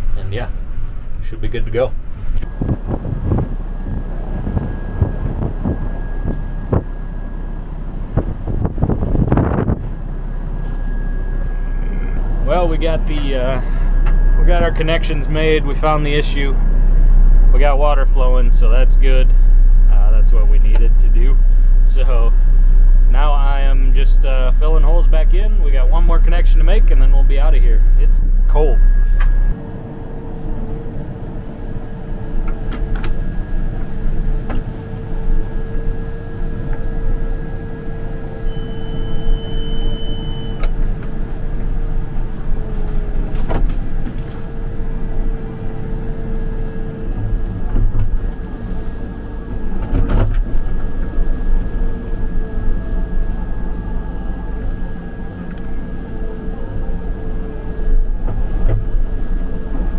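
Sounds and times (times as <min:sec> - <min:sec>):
backhoe engine running: 0:00.0 - 0:59.9.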